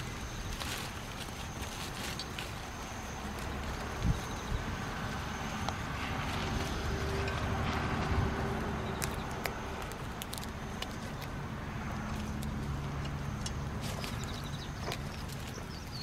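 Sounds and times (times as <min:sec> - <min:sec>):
puppies gnawing and tugging branch: 0:00.0 - 0:16.0.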